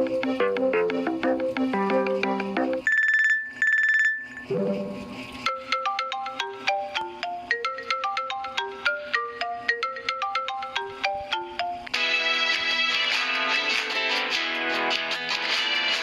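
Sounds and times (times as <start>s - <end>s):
phone ringtone melody: 0.0s - 13.1s.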